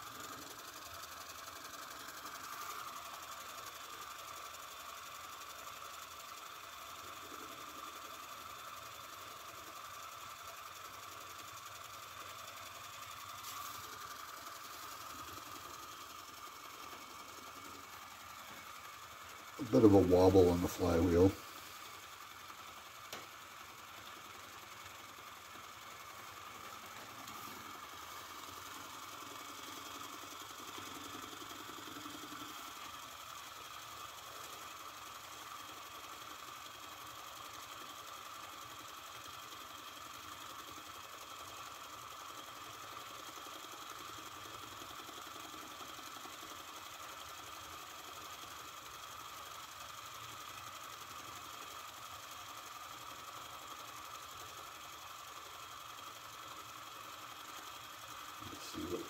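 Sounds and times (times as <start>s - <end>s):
toy steam engine ticking: 0.0s - 59.0s.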